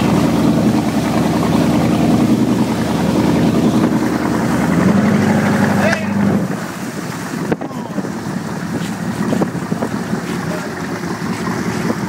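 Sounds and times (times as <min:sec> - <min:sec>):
water lapping against boat: 0:00.0 - 0:12.0
wind buffeting microphone: 0:00.0 - 0:12.0.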